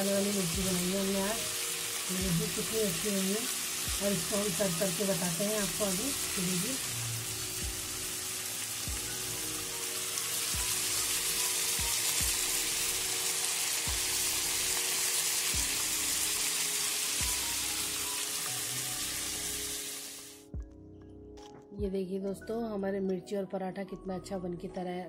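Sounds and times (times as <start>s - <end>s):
food sizzling in oil: 0.0s - 20.5s.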